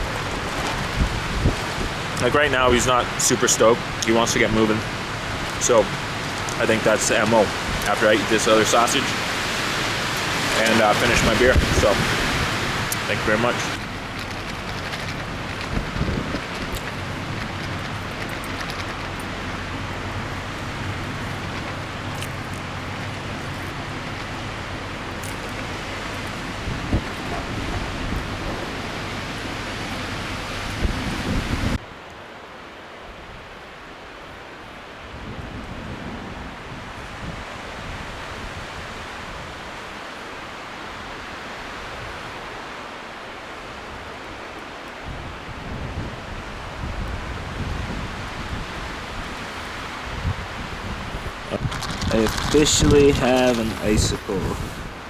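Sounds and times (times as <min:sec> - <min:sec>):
strong wind: 0:00.0 - 0:55.0.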